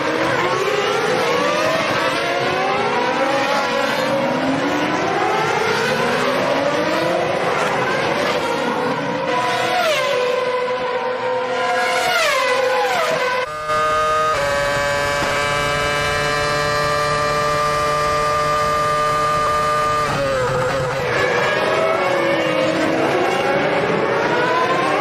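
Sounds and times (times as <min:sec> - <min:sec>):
racing car engines at full throttle: 0:00.0 - 0:25.0.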